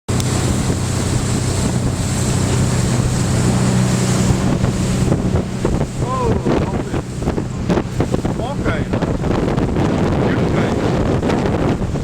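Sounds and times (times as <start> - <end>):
boat engine humming: 0.1 - 12.0
water rushing around hull: 0.1 - 12.0
wind buffeting microphone: 0.1 - 12.0.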